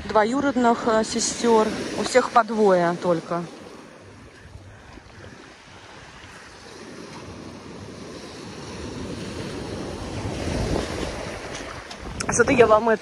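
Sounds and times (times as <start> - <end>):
wind rumbling on microphone: 0.0 - 2.7, 3.6 - 13.0
sea surf washing: 0.0 - 13.0.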